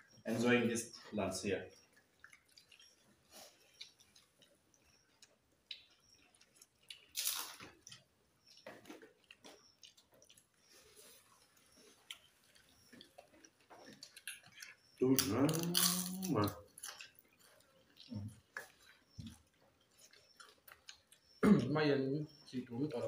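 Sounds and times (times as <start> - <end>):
people eating with hands: 0.0 - 23.0.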